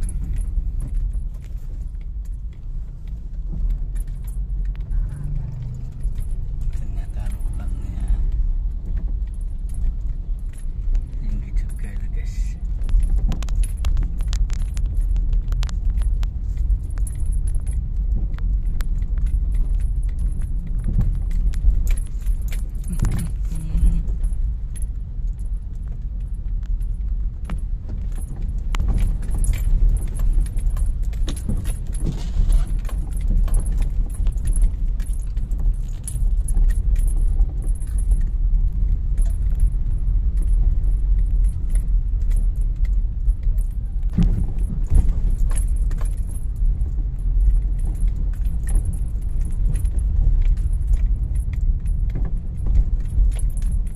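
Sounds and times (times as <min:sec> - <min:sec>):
car engine and tyres rumbling: 0:00.0 - 0:53.9
car rattling over potholes: 0:00.0 - 0:53.9.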